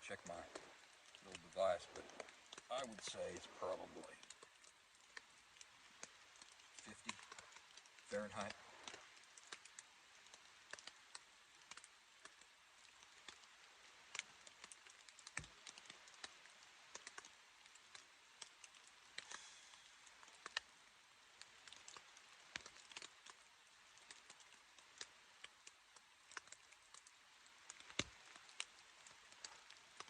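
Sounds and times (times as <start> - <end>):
faint ticks and taps: 0.0 - 30.0
low steady hiss: 0.0 - 30.0.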